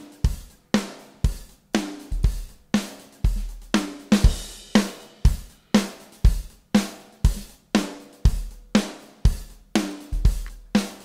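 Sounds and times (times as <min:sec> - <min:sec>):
drum kit loop: 0:00.0 - 0:11.0.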